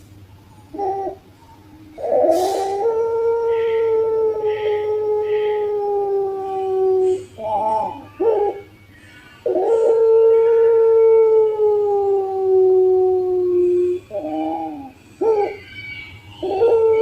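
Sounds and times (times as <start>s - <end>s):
dove cooing: 0.6s - 8.8s, 9.4s - 15.8s, 16.4s - 17.0s.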